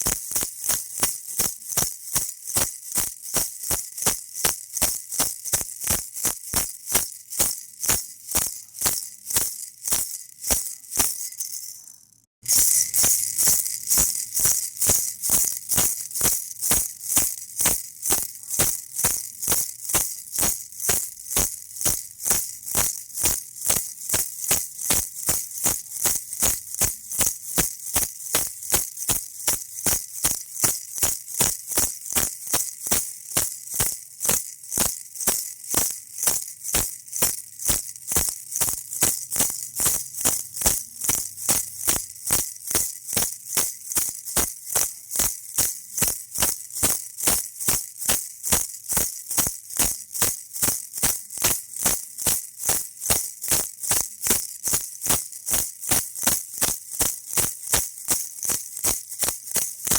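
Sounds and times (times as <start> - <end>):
baby rattle shaking: 0.0 - 59.9.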